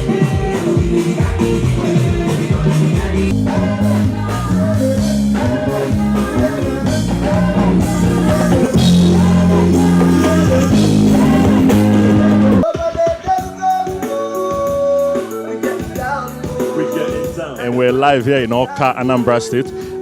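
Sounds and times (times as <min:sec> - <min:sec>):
loud pop music with singing: 0:00.0 - 0:20.0.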